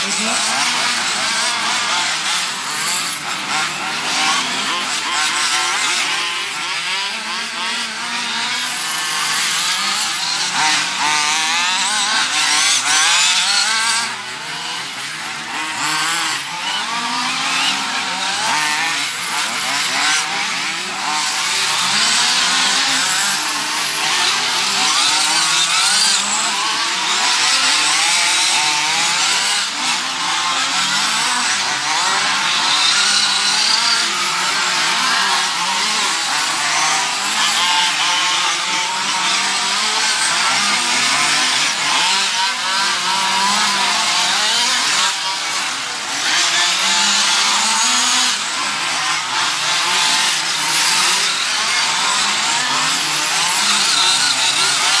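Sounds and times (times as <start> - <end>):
rc car engines whining: 0.0 - 55.0.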